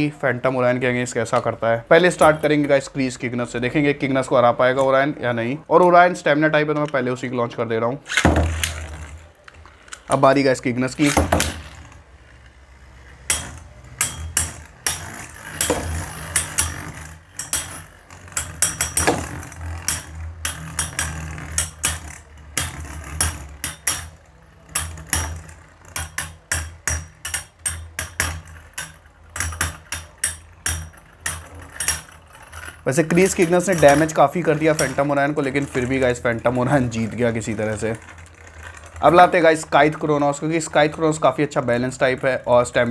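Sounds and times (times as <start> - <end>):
spinning tops clicking together: 8.1 - 42.9
spinning tops humming: 8.2 - 42.9.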